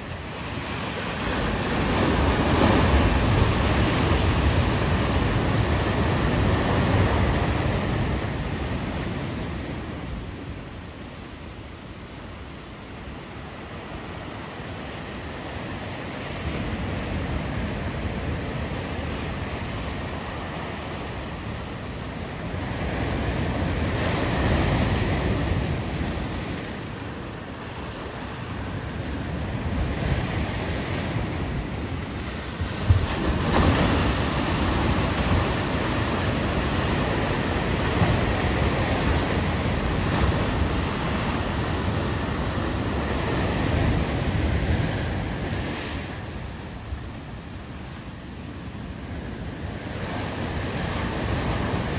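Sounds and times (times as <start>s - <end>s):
surf washing over rocks: 0.0s - 51.9s.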